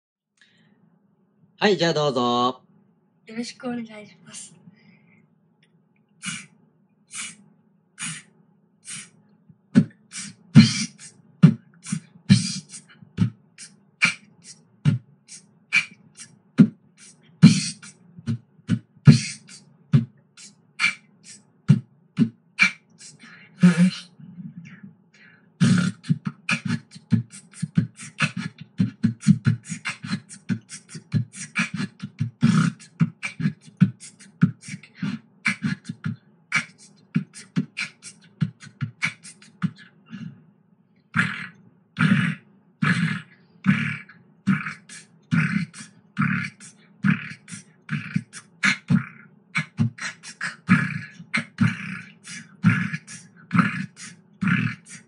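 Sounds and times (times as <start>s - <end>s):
child beatboxing: 3.3s - 4.6s, 6.2s - 6.5s, 7.1s - 7.4s, 8.0s - 9.2s, 9.8s - 24.8s, 25.6s - 39.9s, 41.2s - 55.0s
steady low hum: 6.2s - 55.0s.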